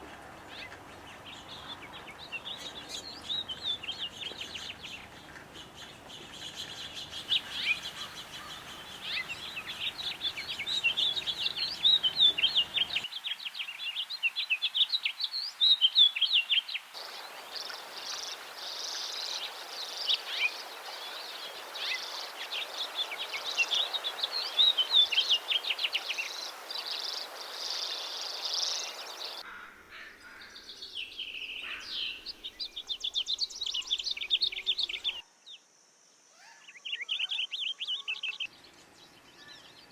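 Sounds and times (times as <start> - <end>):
background hiss: 0.0 - 36.3
songbirds chirping and trilling: 0.0 - 39.9.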